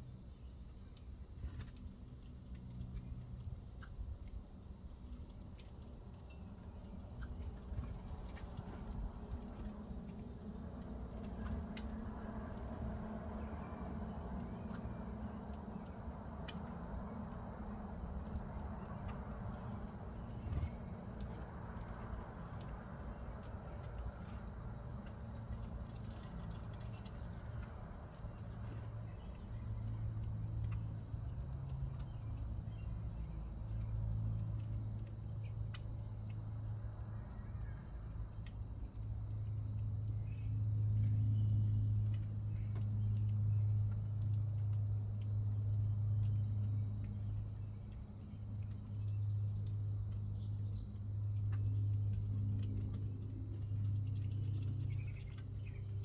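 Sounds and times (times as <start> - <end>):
low droning hum: 0.0 - 56.0
high-pitched insect chorus: 2.4 - 56.0.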